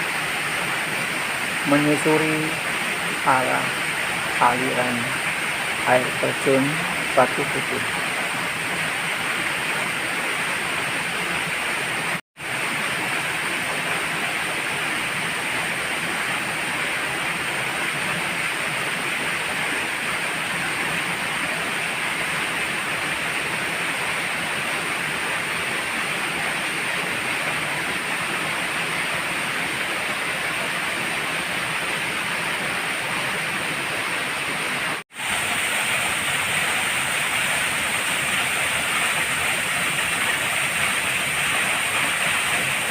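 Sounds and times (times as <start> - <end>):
waterfall stream rushing: 0.0 - 42.9.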